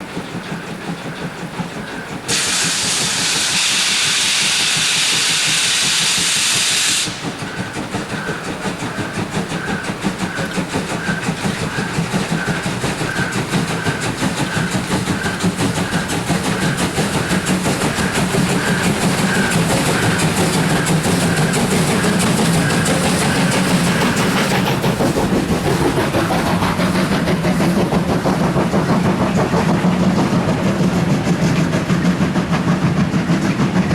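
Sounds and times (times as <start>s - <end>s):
loud steam hiss: 0.0s - 33.9s
steam locomotive chuffing: 0.0s - 33.9s.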